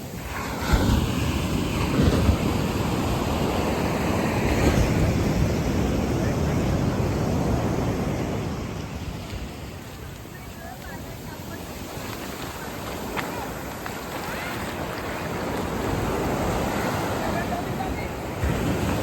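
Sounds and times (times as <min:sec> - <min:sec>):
surf washing up the beach: 0:00.0 - 0:19.0
wind buffeting the microphone: 0:00.0 - 0:19.0.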